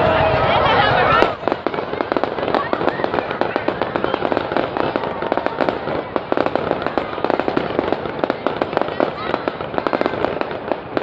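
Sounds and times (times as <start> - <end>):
fireworks crackling and popping: 0.1 - 11.0.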